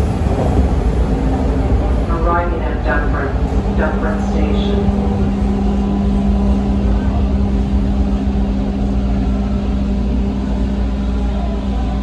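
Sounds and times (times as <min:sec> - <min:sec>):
subway train rumble inside car: 0:00.0 - 0:12.0.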